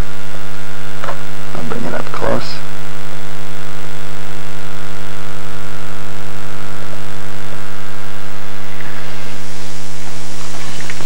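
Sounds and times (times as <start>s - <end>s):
loud steady hum: 0.0s - 11.0s.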